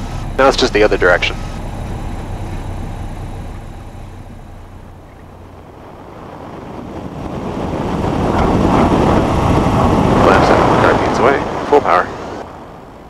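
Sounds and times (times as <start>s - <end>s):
airplane rolling on runway: 0.0s - 13.0s.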